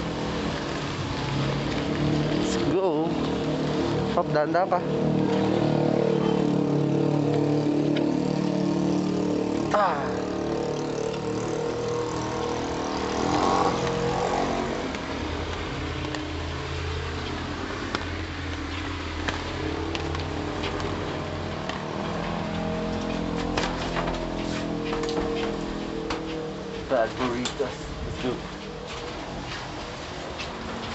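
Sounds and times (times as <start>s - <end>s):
heavy rain: 0.0s - 30.9s
vehicle engines humming: 0.0s - 30.9s.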